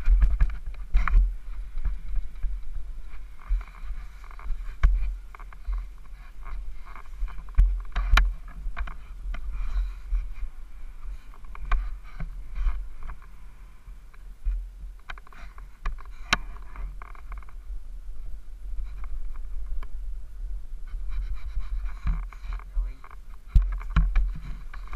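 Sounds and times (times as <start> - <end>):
muffled motorbike engine rumble: 0.0 - 24.9
wind buffeting: 0.0 - 24.9.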